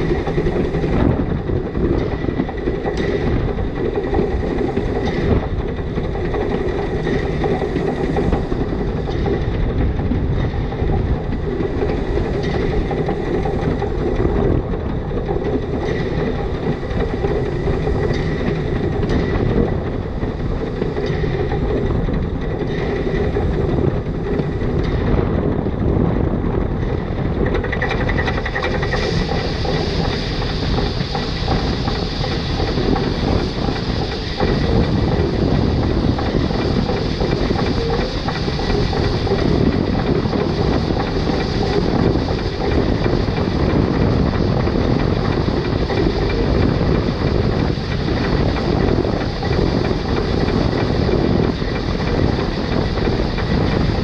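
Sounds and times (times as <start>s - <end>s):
steam locomotive running: 0.0s - 54.0s
wheels on rails: 0.0s - 54.0s.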